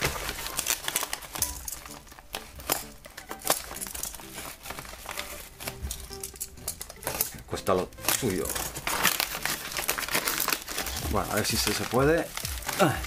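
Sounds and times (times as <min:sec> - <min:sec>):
package crinkling: 0:00.0 - 0:13.0.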